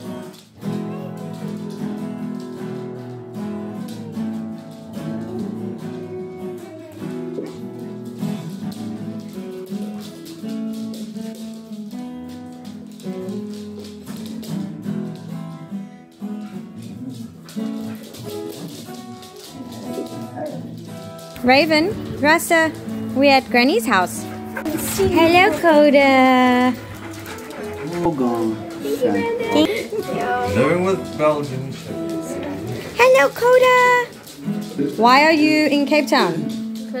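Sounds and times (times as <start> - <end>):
guitar music: 0.0 - 37.0.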